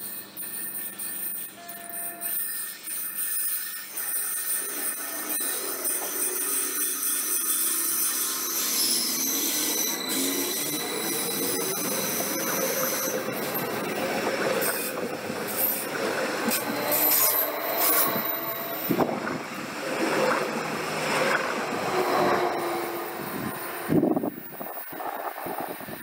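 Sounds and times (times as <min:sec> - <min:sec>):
train wheel and track noise: 0:00.0 - 0:26.0
high squealing tones: 0:00.4 - 0:25.8.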